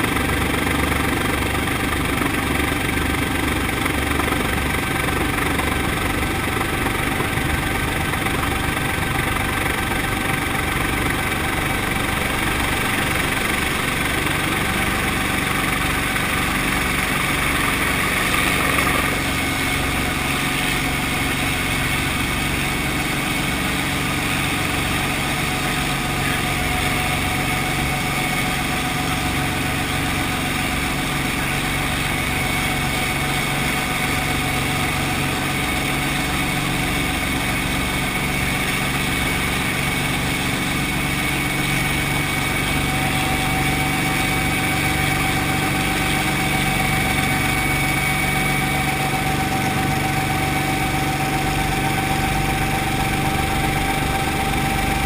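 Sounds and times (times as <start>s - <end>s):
helicopter engine and rotor running: 0.0s - 55.0s
steady whine: 0.0s - 55.0s.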